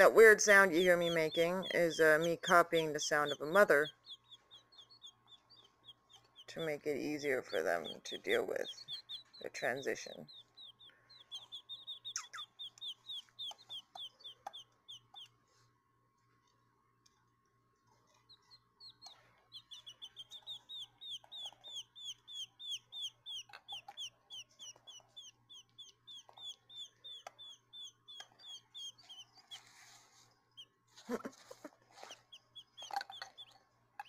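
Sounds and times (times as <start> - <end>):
quail chicks peeping: 0.0 - 15.4, 18.1 - 34.0.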